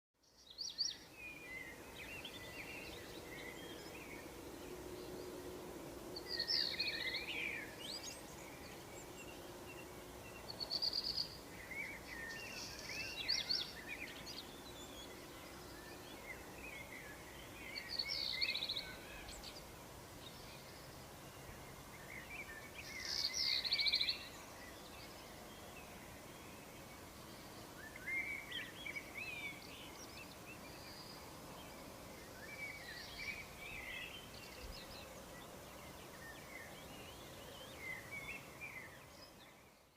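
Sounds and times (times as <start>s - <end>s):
songbirds singing and chirping: 0.2s - 39.9s.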